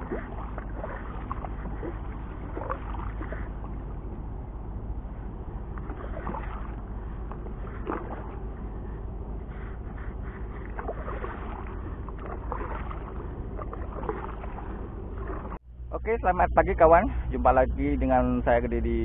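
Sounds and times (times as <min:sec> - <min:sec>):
water sloshing at shoreline: 0:00.0 - 0:18.0
low rumble: 0:00.0 - 0:19.0.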